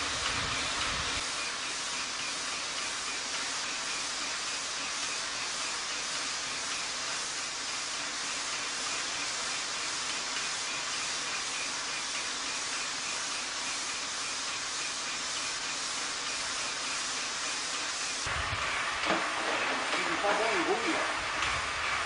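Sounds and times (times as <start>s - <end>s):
steam hissing: 0.0s - 22.0s.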